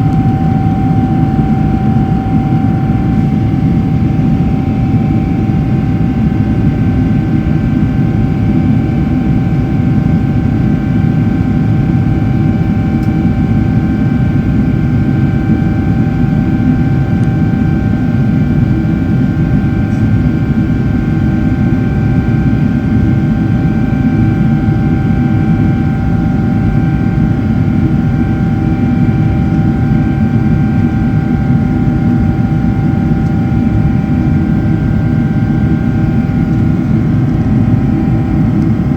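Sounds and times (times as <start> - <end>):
jet engine rumble in cabin: 0.0 - 38.9
steady engine whine: 0.0 - 38.9.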